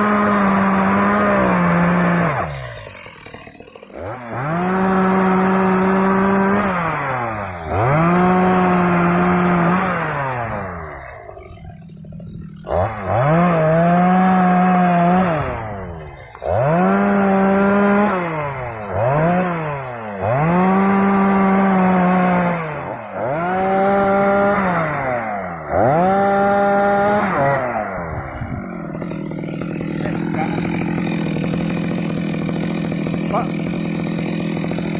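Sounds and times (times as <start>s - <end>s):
chainsaw revving and idling: 0.0s - 34.9s.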